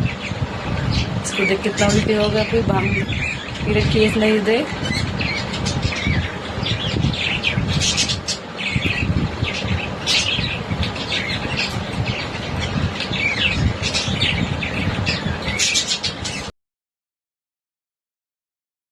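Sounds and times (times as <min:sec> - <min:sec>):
parrots chirping and squawking: 0:00.0 - 0:16.5.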